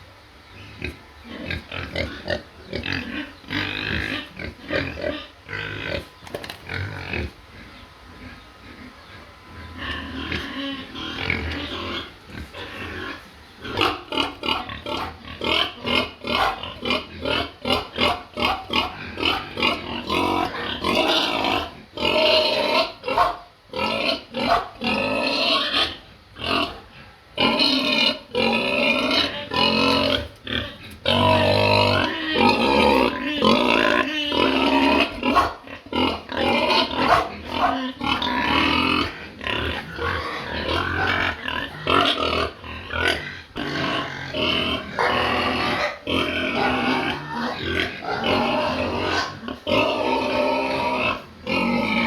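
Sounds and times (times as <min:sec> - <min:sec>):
pigs grunting and squealing: 0:00.6 - 0:52.0.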